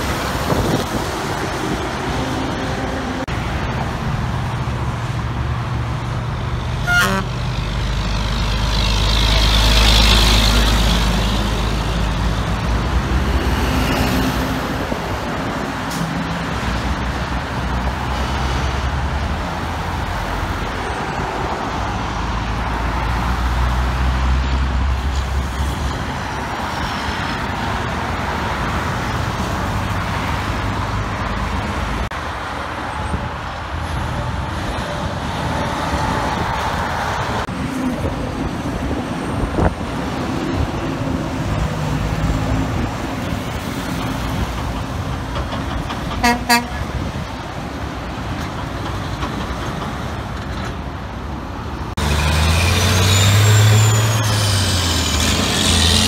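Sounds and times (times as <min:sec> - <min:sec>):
tyre and traffic noise: 0:00.0 - 0:56.0.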